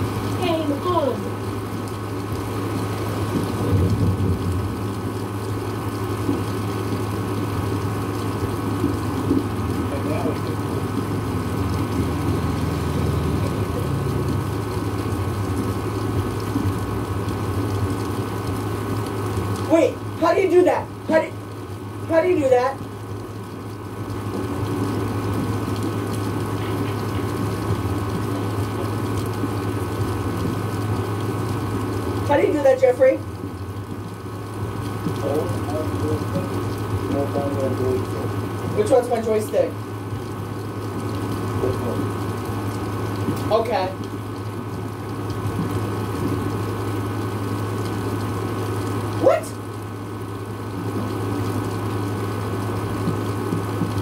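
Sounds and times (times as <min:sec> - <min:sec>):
heavy rain pouring: 0:00.0 - 0:54.0
low steady hum: 0:00.0 - 0:54.0.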